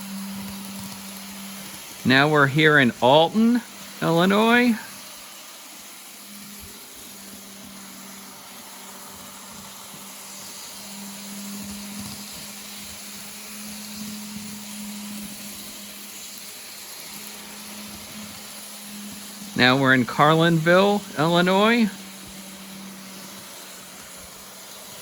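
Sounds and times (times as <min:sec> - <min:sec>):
even hiss: 0:00.0 - 0:25.0
model train motor hum: 0:00.0 - 0:25.0.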